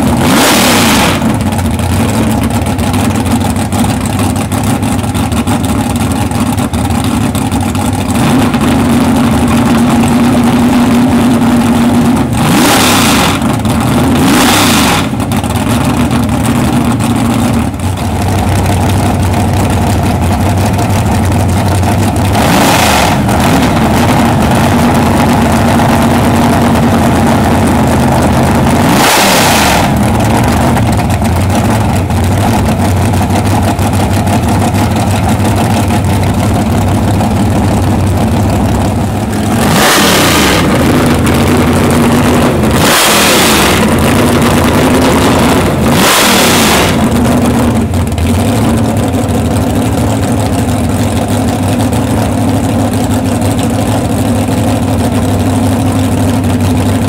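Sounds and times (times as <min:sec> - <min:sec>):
engine idling: 0:00.0 - 0:57.0
engine throttle blips: 0:00.0 - 0:57.0.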